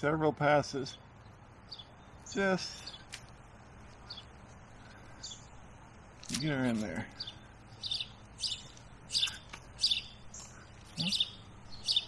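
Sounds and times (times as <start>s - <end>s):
bird chirping: 0.8s - 12.0s.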